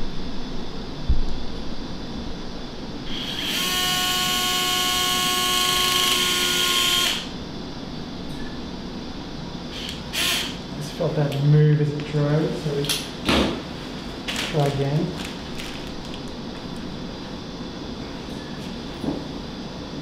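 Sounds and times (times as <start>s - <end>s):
surgical drill whine: 0.0s - 20.0s.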